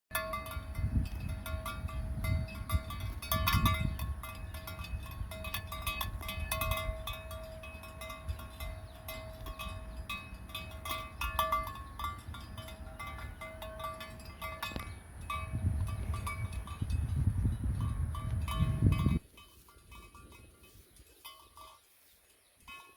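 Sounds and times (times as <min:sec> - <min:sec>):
cowbells clanking: 0:00.1 - 0:22.9.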